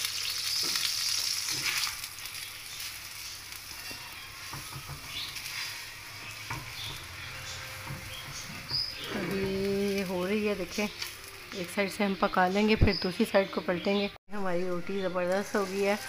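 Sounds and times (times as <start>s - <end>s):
flatbread sizzling in ghee: 0.0s - 12.9s, 15.3s - 16.0s.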